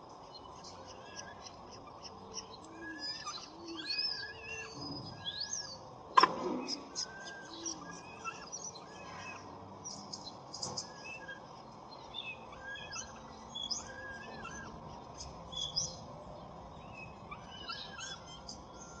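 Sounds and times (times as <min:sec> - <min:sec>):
birds chirping: 0:00.0 - 0:19.0
outdoor background hiss: 0:00.0 - 0:19.0.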